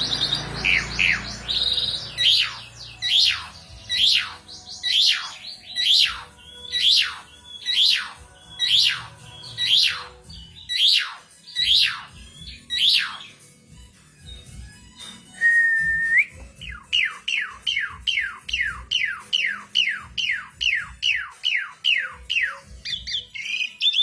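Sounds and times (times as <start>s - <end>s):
starling whistled call: 0.0s - 13.4s, 15.4s - 24.0s.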